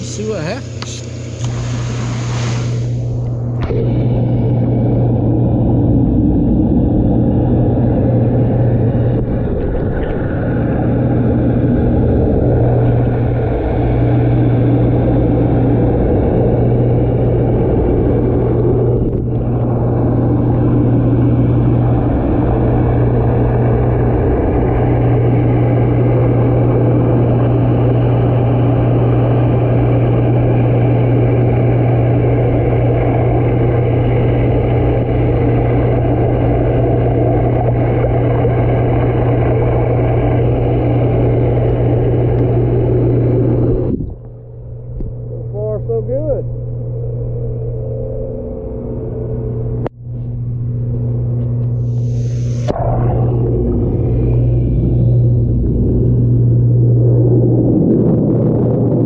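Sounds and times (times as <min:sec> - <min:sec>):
pump motor hum underwater: 0:00.0 - 0:59.0
water and air rushing from jets: 0:00.0 - 0:59.0.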